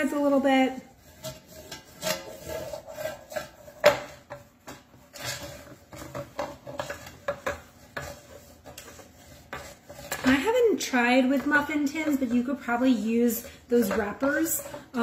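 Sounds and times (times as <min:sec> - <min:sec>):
metal cake pan scraping and clicking: 0:01.0 - 0:15.0.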